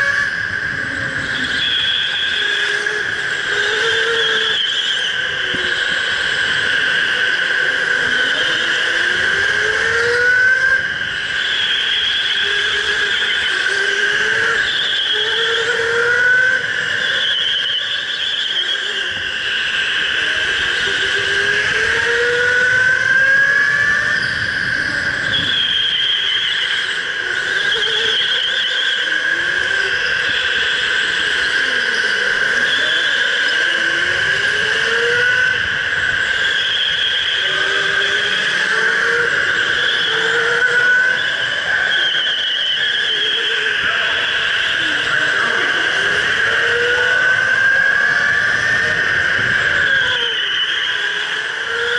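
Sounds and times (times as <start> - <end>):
electric go-kart motor whining: 0.0 - 51.9.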